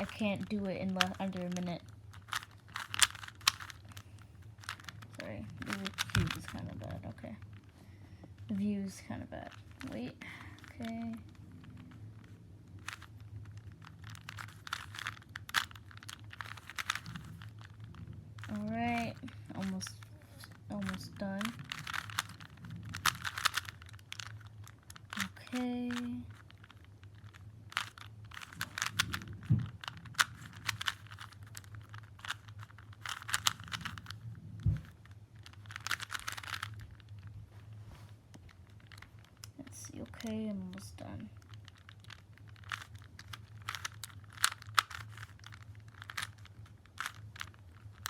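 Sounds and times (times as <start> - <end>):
puzzle cube plastic clicks: 0.0 - 37.3, 38.2 - 48.0.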